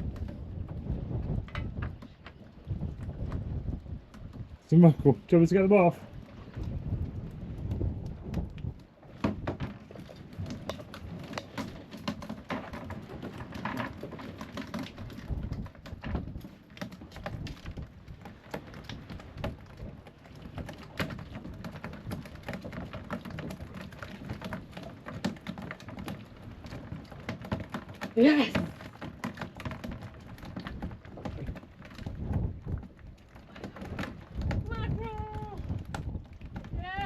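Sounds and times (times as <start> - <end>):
fish flapping against boat: 6.0 - 37.0.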